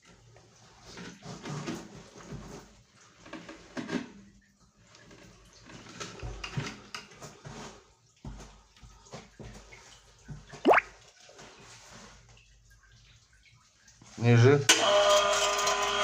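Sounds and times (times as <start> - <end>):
water dripping in well shaft: 0.0 - 16.0.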